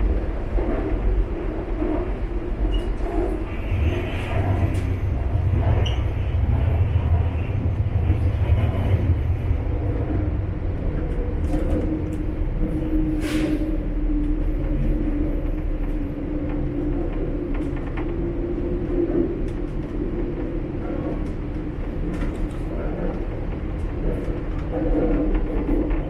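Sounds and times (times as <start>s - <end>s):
subway car running rumble: 0.0s - 26.0s.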